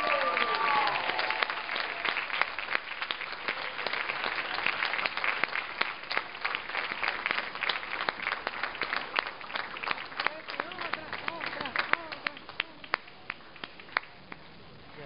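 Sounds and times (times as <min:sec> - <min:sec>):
sharp claps: 0:00.0 - 0:14.4
audience applauding: 0:00.0 - 0:15.0.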